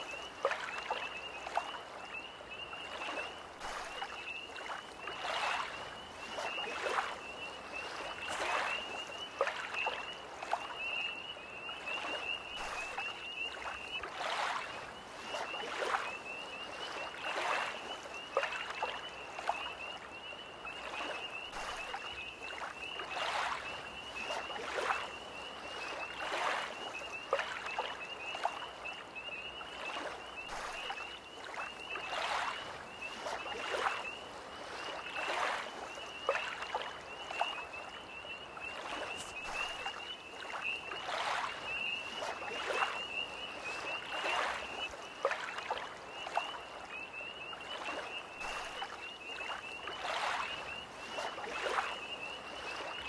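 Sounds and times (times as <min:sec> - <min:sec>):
tree frogs trilling: 0:00.0 - 0:14.9, 0:15.6 - 0:53.0
lake waves lapping at shore: 0:00.0 - 0:19.9, 0:20.8 - 0:53.0.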